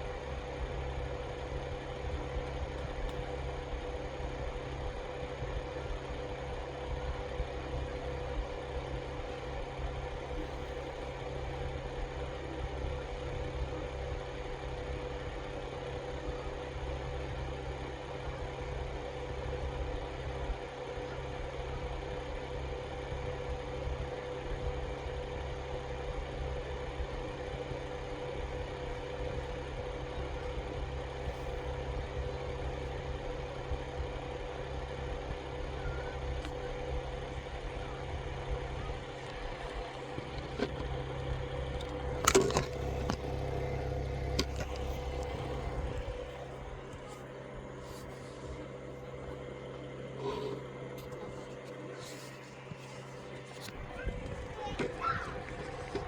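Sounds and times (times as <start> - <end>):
faint constant tone: 0.0 - 56.0
mechanical hum: 0.0 - 56.0.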